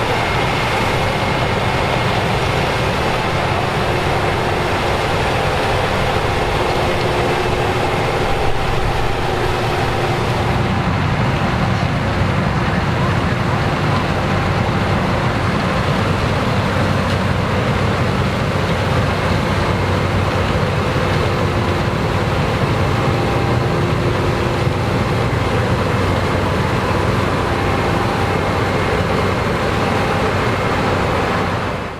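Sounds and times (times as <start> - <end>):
combine harvester engine droning: 0.0 - 31.9
steady whining tones: 0.0 - 31.9.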